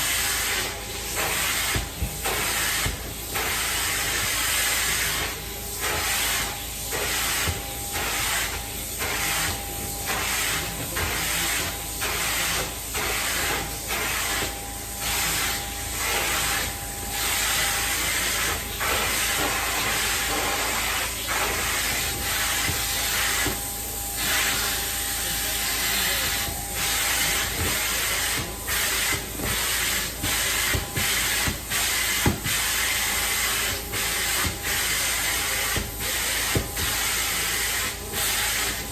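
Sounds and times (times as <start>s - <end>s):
carpet cleaner suction hiss: 0.0s - 38.9s.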